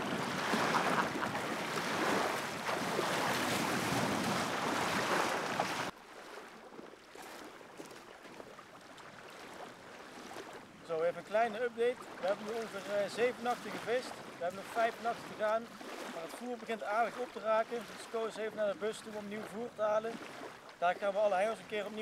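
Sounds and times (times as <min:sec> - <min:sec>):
small waves lapping: 0:00.0 - 0:22.0
water splashing and sloshing: 0:00.0 - 0:22.0
wind: 0:00.0 - 0:22.0.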